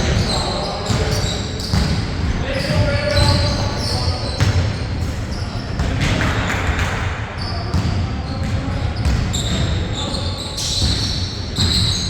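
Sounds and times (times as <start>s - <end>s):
shoe squeaks: 0.0s - 5.8s, 7.4s - 12.0s
basketballs bouncing on court: 0.0s - 12.0s.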